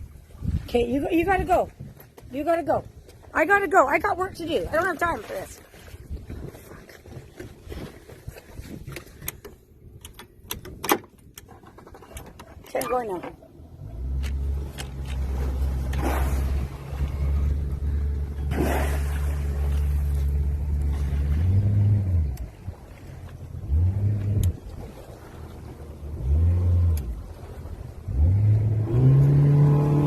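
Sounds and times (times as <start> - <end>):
boat engine idling and revving: 0.0 - 30.0.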